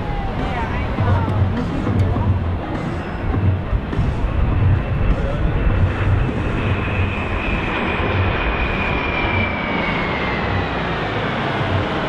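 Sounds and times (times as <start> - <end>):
high whine falling in pitch: 0.0 - 12.0
jet roar: 0.0 - 12.0.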